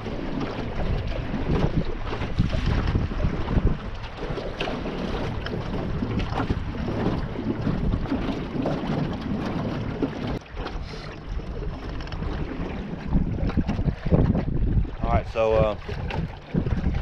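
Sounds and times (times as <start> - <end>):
boat motor running: 0.0 - 17.0
wind buffeting microphone: 0.0 - 17.0.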